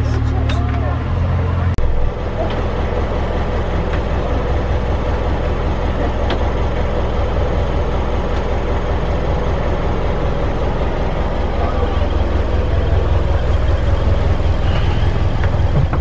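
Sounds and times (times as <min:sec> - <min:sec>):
boat diesel engine drone: 0:00.0 - 0:16.0.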